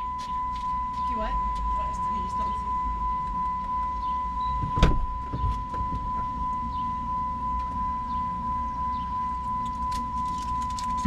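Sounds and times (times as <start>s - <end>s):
car rumble: 0.0s - 11.0s
high-pitched electronic tone: 0.0s - 11.0s.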